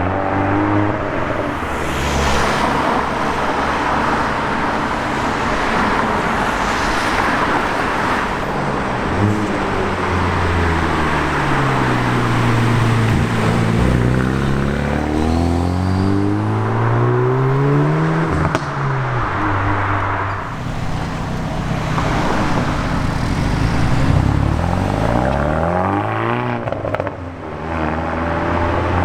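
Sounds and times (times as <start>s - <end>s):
car engine accelerating hard: 0.0s - 29.0s
exhaust crack: 0.0s - 29.0s.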